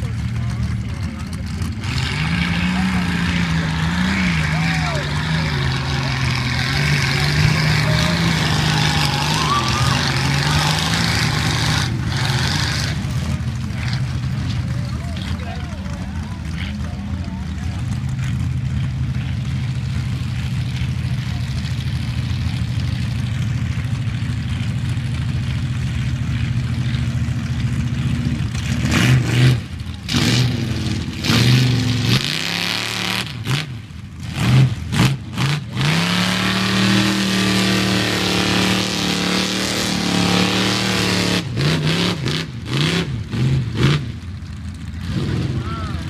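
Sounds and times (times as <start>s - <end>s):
pickup truck engine revving: 0.0s - 46.0s.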